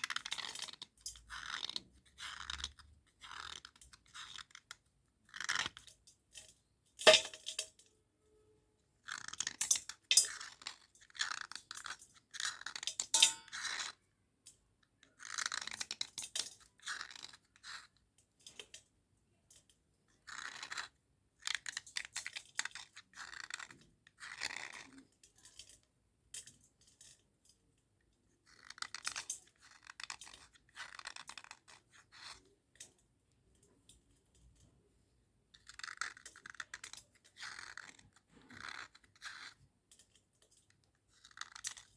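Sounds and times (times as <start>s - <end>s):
scratchy crunching of slate pencils: 0.0s - 6.6s, 9.0s - 14.0s, 14.8s - 18.8s, 19.5s - 27.2s, 28.2s - 32.9s, 35.6s - 41.9s.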